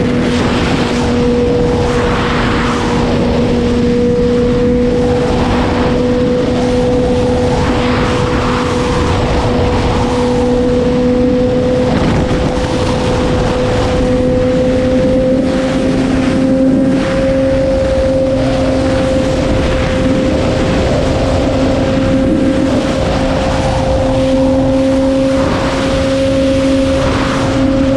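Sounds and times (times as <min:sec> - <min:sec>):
motorcycle engine revving high: 0:00.0 - 0:27.9
wind noise on microphone: 0:00.0 - 0:27.9.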